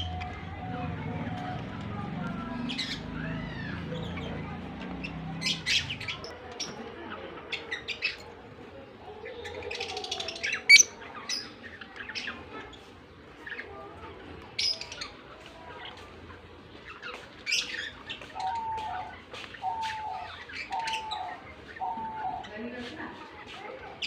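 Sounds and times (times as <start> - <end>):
lovebirds chirping and squawking: 0.0 - 24.0.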